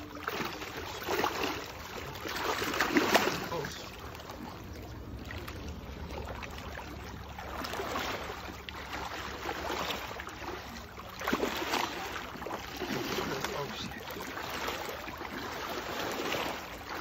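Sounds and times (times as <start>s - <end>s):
fish thrashing in shallow water: 0.0s - 17.0s.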